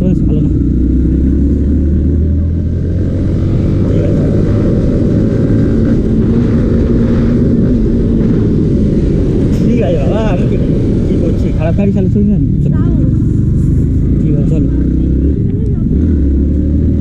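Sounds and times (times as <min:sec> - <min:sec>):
motorcycle accelerating: 0:00.0 - 0:17.0
wind rumble on microphone: 0:00.6 - 0:17.0.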